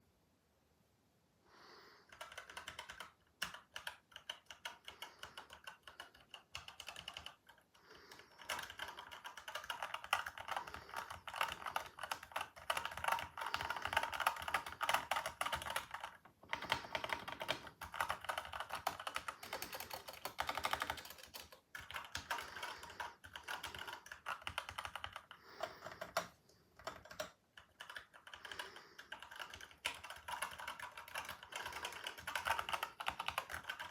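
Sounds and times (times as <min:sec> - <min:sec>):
mechanical keyboard typing: 0:02.1 - 0:33.9.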